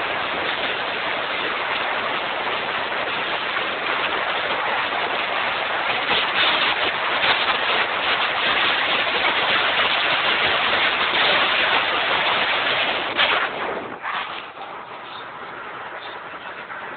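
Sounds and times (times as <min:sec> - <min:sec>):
road and wind noise inside car: 0:00.0 - 0:16.9.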